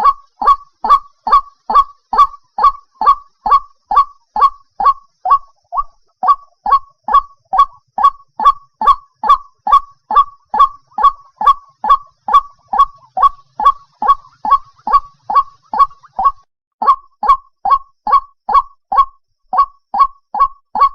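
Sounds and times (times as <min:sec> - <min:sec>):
waterhen honking calls: 0:00.0 - 0:20.9.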